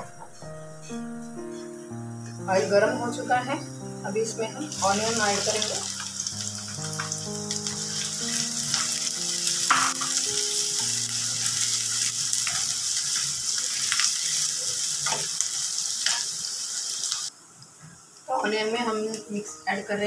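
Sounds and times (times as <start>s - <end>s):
onions sizzling in hot oil: 0.2s - 20.0s.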